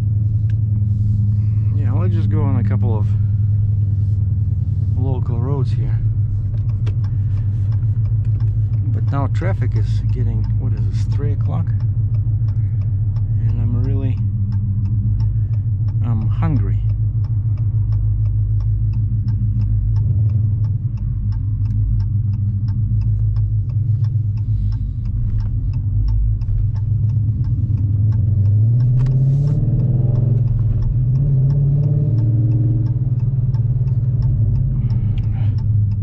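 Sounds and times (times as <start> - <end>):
car engine droning while driving: 0.0 - 36.0
faint rapid ticking: 0.0 - 36.0.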